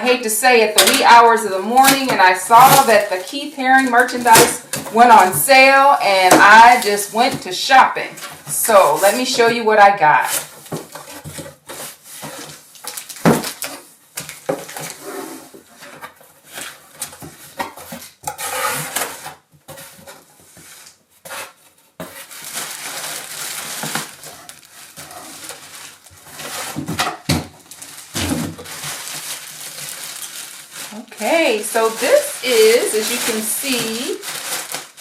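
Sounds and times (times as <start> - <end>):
packaging rustling and crinkling: 0.1 - 35.0.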